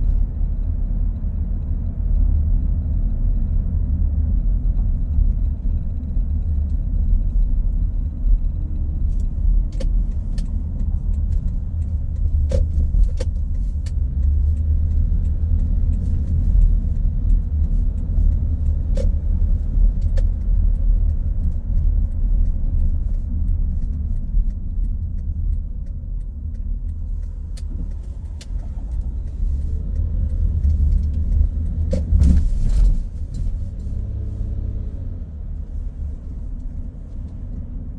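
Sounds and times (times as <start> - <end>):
car engine and tyre rumble: 0.0 - 37.9.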